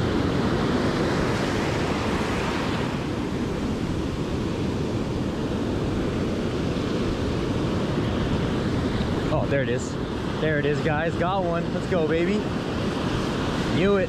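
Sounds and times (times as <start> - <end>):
ocean surf washing up: 0.0 - 14.0
wind rumbling on microphone: 0.0 - 14.0.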